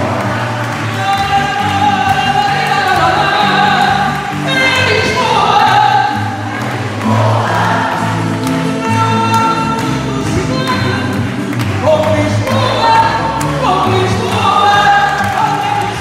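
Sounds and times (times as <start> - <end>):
woman singing: 0.0 - 6.5, 8.4 - 16.0
guitars playing: 0.0 - 16.0.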